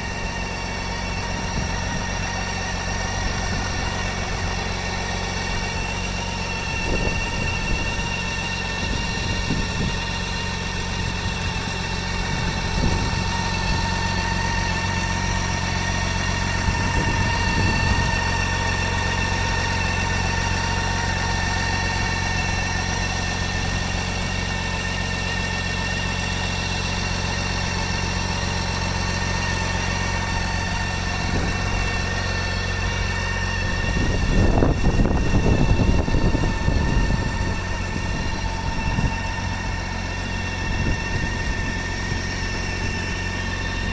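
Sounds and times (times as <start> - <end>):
motorcycle engine idling: 0.0 - 43.9
steady whine: 0.0 - 43.9.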